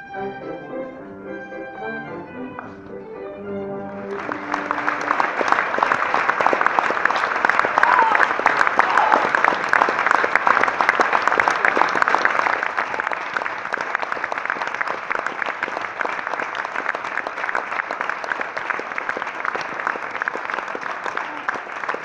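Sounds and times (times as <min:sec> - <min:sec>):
audience applauding: 0:03.7 - 0:22.0.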